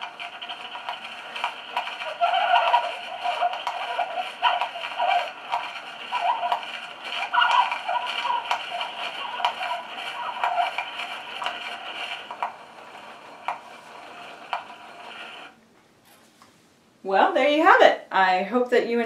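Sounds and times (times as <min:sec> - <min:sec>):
scratchy tinny phonograph playback: 0:00.0 - 0:18.0.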